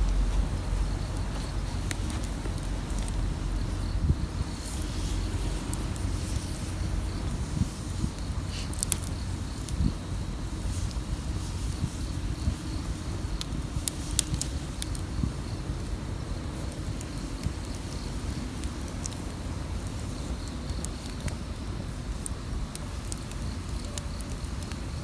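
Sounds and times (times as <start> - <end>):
fire low rumble: 0.0 - 25.0
wood fire crackling and popping: 0.0 - 25.0.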